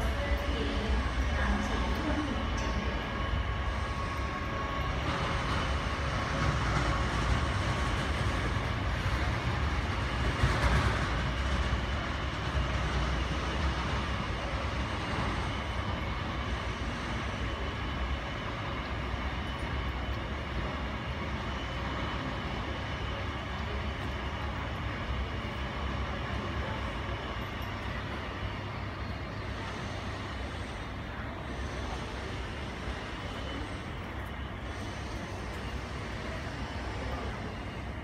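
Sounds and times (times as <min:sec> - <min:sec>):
jet turbine whine: 0:00.0 - 0:38.0.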